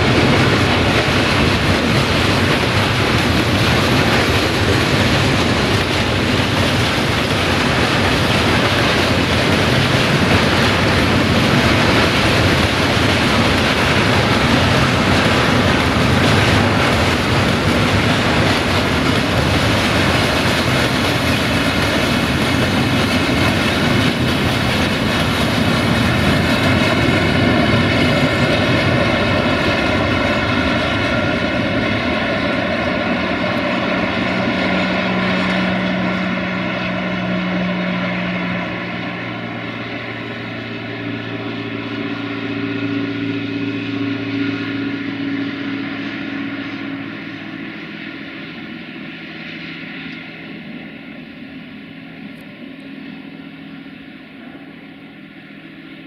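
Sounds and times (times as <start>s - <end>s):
steady hum: 0.0s - 56.0s
train wheels rumbling on rail: 0.0s - 56.0s.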